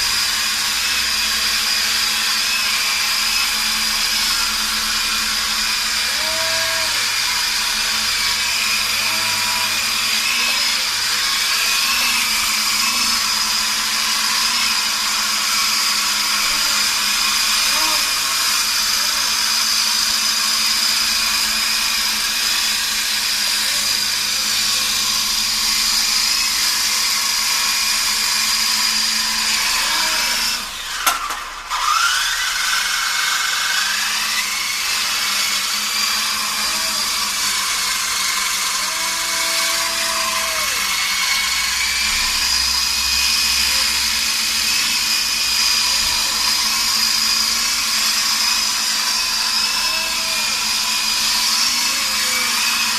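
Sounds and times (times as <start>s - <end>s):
model helicopter rotor whining: 0.0s - 52.9s.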